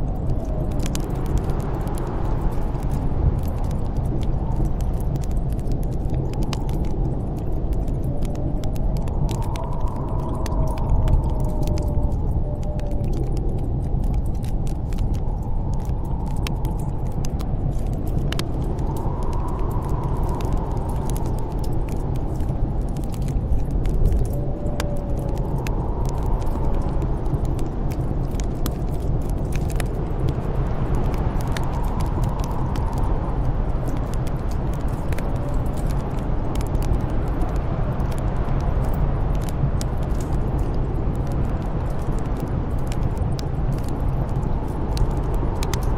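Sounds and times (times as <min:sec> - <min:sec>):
wind howling: 0:00.0 - 0:45.9
wood fire crackling: 0:00.0 - 0:45.9.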